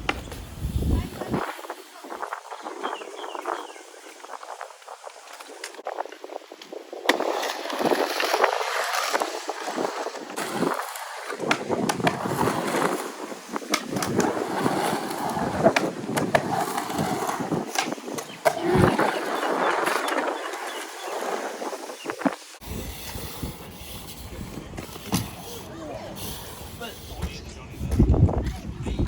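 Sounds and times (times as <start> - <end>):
skateboard wheels rolling on concrete: 0.0 - 29.0.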